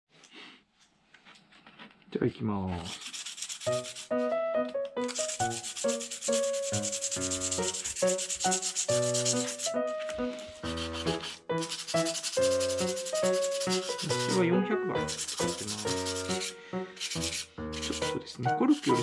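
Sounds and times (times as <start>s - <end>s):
sandpaper rasping: 2.7s - 4.3s, 5.0s - 19.0s
background music melody: 3.7s - 19.0s.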